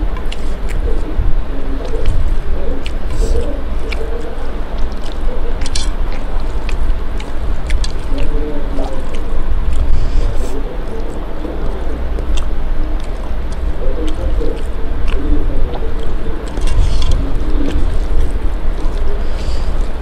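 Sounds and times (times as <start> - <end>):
chewing with clicks and smacks: 0.0 - 20.0
fingers squishing rice and curry: 0.0 - 20.0
steady low rumble: 0.0 - 20.0.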